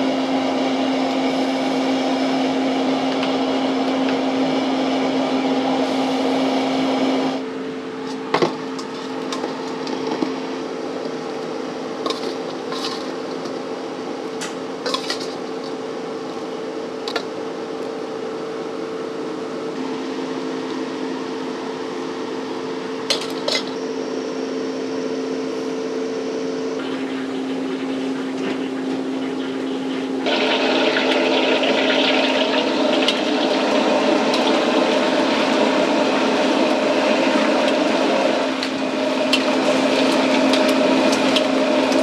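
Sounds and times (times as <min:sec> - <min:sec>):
kitchen machinery hum: 0:00.0 - 0:42.0.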